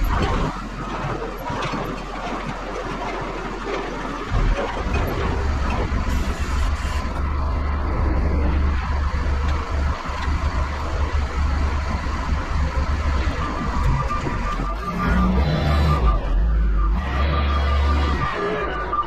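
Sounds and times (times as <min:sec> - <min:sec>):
diesel engine running hard: 0:00.0 - 0:19.0.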